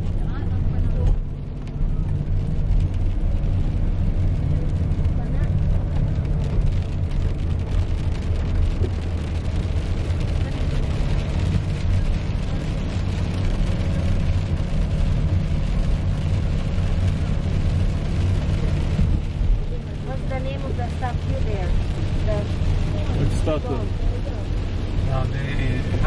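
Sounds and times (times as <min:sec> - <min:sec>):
car engine drone inside cabin: 0:00.0 - 0:26.0
tyres on wet road: 0:00.0 - 0:26.0.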